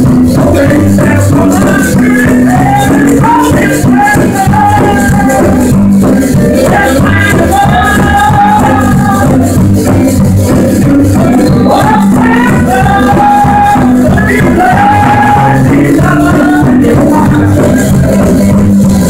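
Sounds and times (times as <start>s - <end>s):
loud music: 0.0s - 19.0s.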